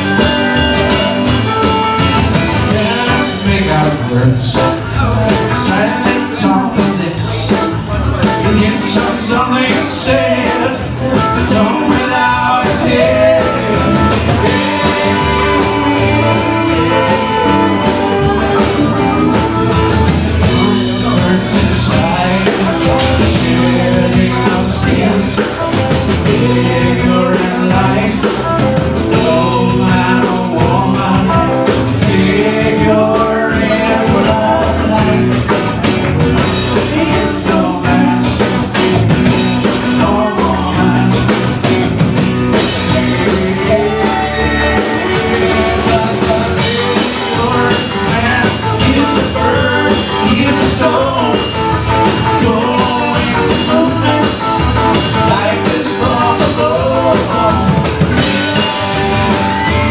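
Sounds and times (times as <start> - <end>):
man singing lead: 0.0 - 59.9
rock band playing live: 0.0 - 59.9.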